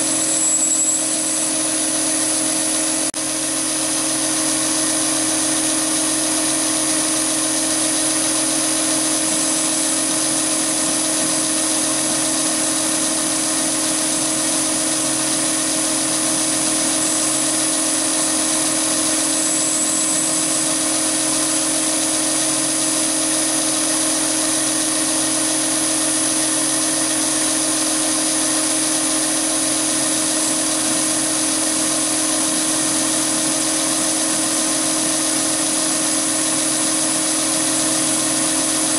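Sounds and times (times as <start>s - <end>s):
lathe cutting metal with whine: 0.0s - 38.9s.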